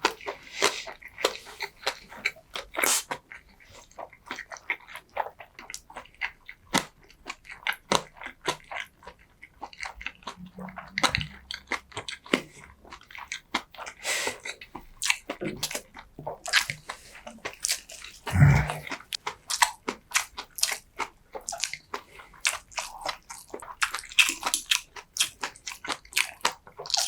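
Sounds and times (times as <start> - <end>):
wet crunchy chewing: 0.0 - 27.0.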